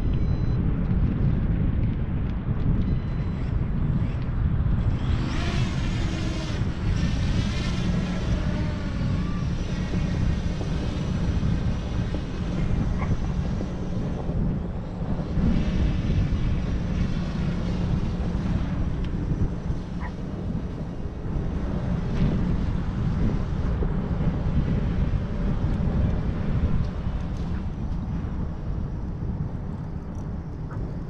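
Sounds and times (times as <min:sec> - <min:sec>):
drone propellers whining: 0:00.0 - 0:31.0
wind rumble on microphone: 0:00.0 - 0:31.0.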